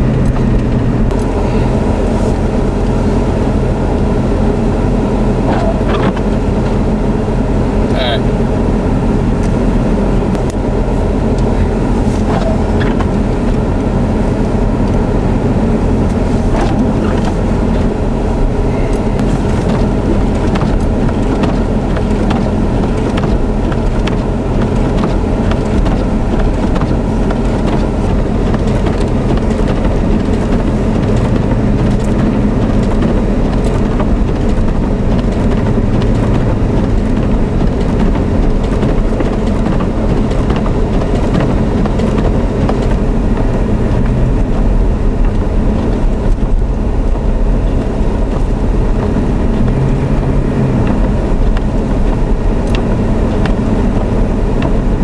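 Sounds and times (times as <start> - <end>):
road and wind noise: 0.0 - 55.0
vehicle engine hum: 0.0 - 55.0.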